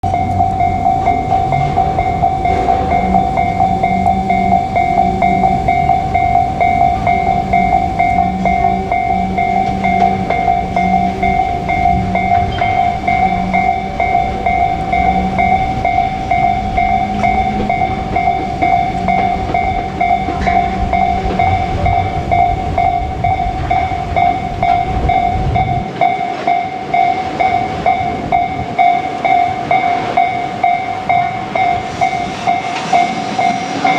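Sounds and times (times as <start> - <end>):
level-crossing warning bell: 0.0 - 33.9
train rumble and wheel clatter: 0.0 - 33.9.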